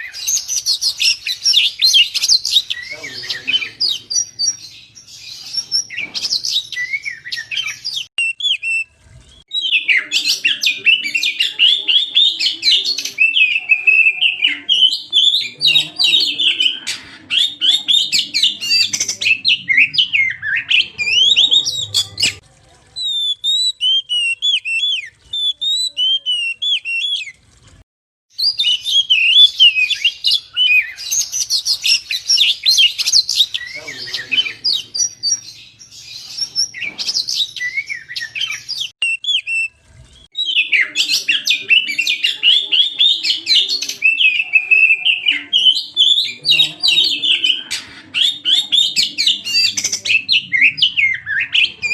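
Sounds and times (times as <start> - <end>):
songbird singing chirps and whistles: 0.0 - 22.4, 23.0 - 27.4, 28.4 - 51.9.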